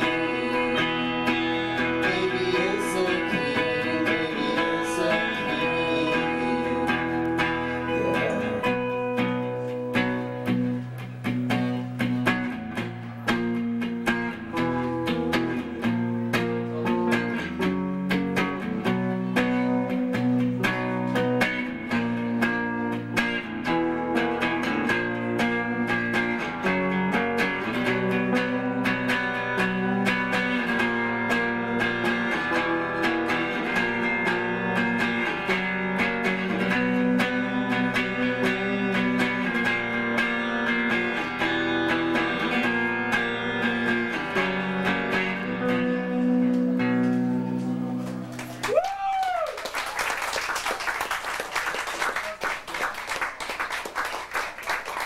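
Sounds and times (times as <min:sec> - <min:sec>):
live band playing guitars: 0:00.0 - 0:55.0.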